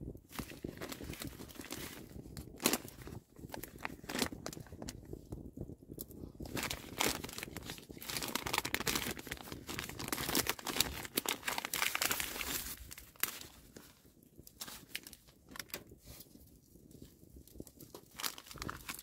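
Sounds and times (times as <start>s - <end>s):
paper pouch crinkling and tearing: 0.3s - 5.2s, 6.4s - 19.0s.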